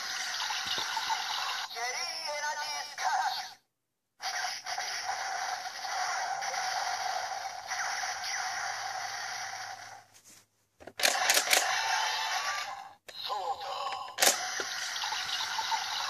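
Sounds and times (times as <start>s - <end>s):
toy electronic sound effect: 0.0s - 3.6s, 4.2s - 10.1s, 11.0s - 16.0s.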